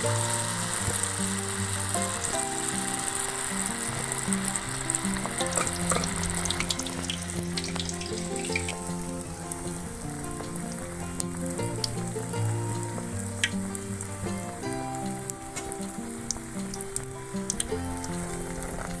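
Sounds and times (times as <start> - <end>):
batter sizzling in hot oil: 0.0 - 19.0.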